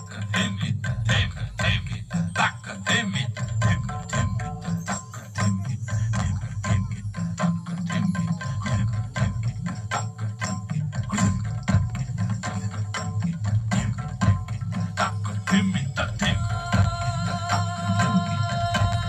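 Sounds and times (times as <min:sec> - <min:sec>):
quick percussion strikes: 0:00.0 - 0:19.0.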